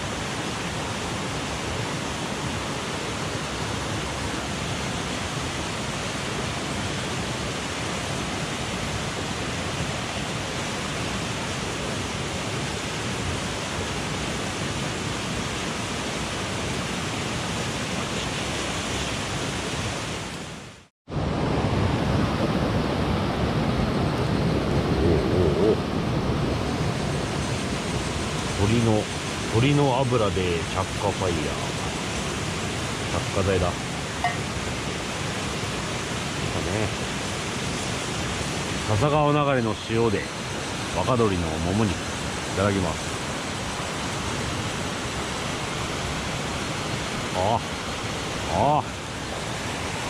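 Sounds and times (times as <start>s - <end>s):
stream rushing: 0.0s - 50.0s.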